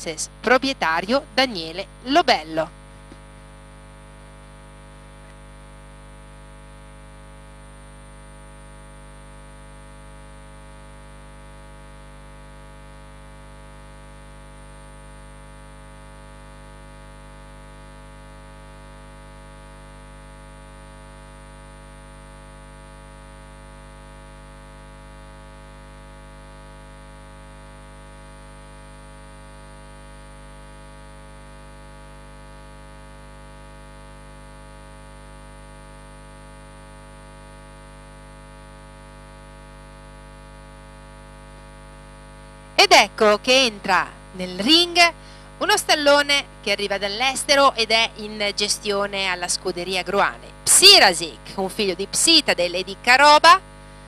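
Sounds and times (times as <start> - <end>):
buzzing mains hum: 0.0 - 54.0.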